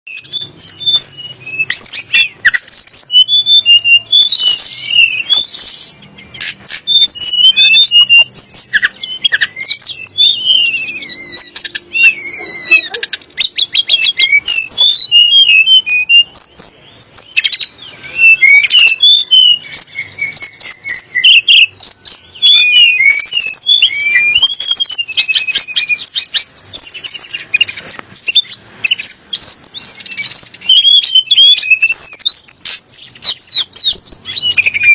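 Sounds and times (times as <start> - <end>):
songbird singing: 0.1 - 34.9.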